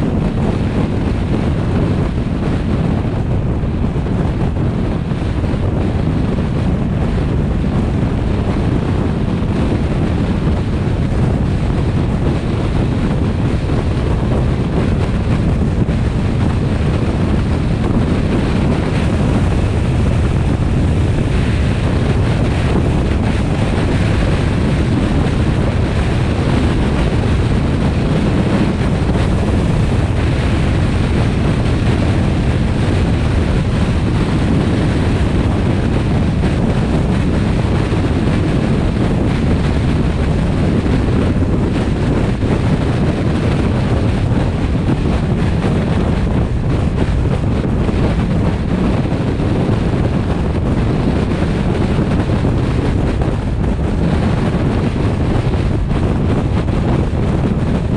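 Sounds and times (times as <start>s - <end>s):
road and tyre noise: 0.0s - 57.9s
wind rumble on microphone: 0.0s - 57.9s.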